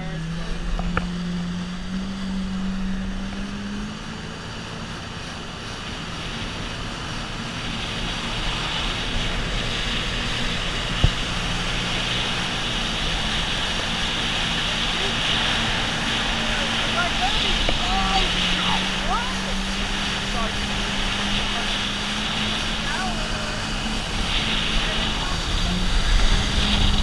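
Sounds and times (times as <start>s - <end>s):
jet ski engine running: 0.0s - 27.0s
jet spray and wind hiss: 5.1s - 27.0s.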